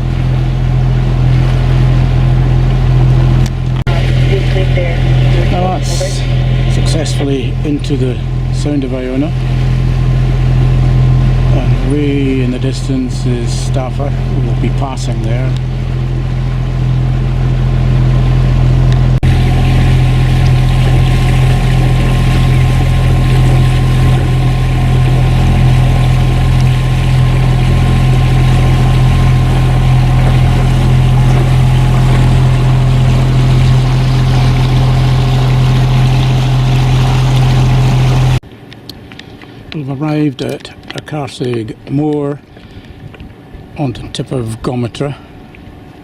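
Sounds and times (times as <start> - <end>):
boat engine droning: 0.0 - 46.0
water rushing: 0.0 - 46.0
wind: 0.0 - 46.0.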